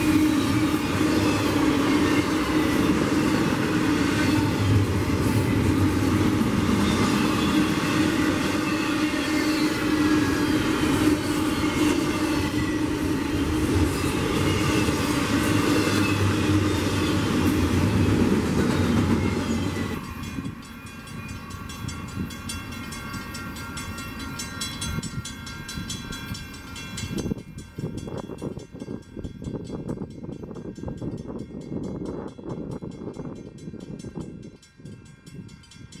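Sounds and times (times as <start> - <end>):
freight train rumbling on rails: 0.0 - 36.0.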